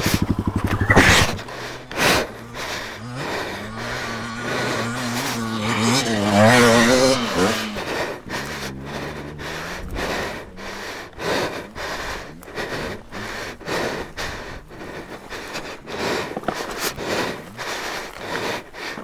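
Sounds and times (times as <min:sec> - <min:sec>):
person breathing heavily: 0:00.0 - 0:19.0.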